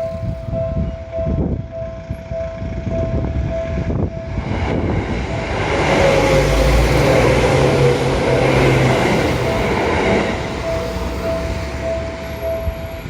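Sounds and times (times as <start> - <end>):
crossing warning bell beeping: 0.0 - 13.0
train rumble and wheel noise: 0.0 - 13.0.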